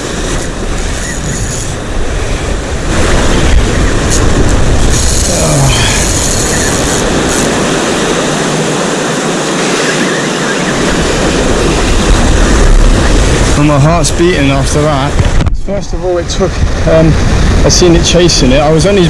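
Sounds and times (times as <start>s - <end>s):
surf washing on shore: 0.0s - 19.0s
wind buffeting microphone: 0.0s - 19.0s.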